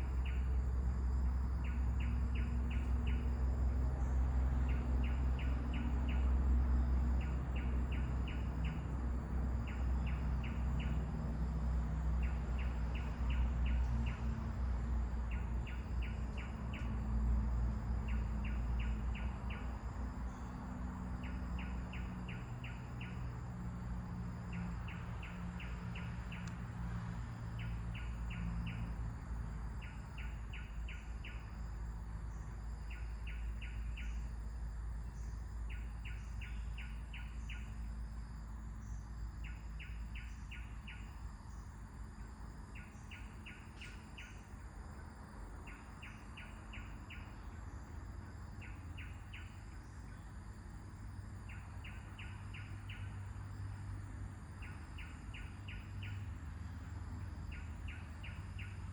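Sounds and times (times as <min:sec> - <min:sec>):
low rumble of wind: 0:00.0 - 0:58.9.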